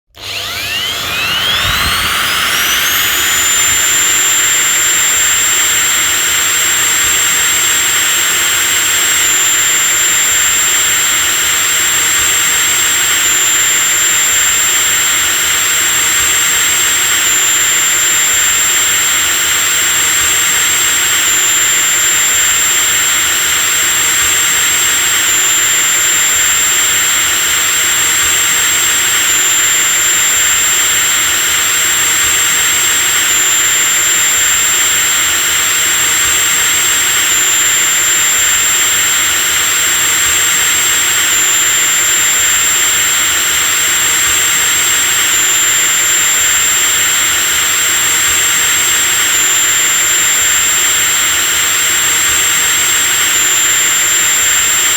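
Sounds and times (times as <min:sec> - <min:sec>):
electric drill whining: 0:00.0 - 0:54.9.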